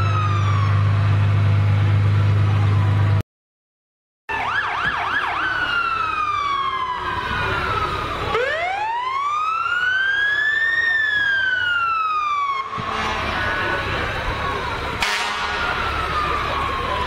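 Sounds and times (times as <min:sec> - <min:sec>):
fire truck siren wailing: 0:00.0 - 0:03.2, 0:04.3 - 0:17.0
truck engines running low: 0:00.0 - 0:03.2, 0:04.3 - 0:17.0.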